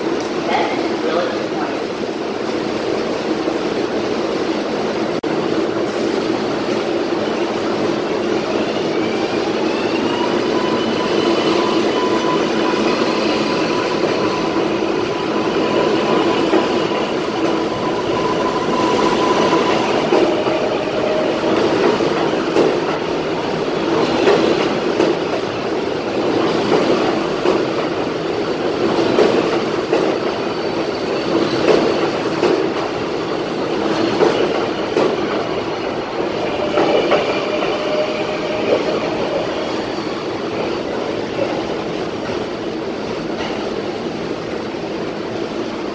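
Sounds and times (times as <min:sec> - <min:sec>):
subway train motor whine: 0:05.6 - 0:45.9.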